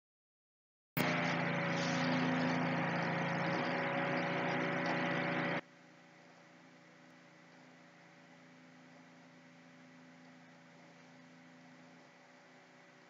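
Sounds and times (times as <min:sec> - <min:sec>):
steady machine hum: 0:01.0 - 0:13.0.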